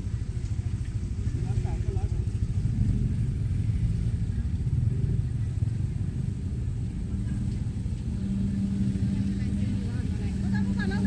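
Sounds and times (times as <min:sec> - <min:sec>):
motor vehicle rumble: 0:00.0 - 0:11.0.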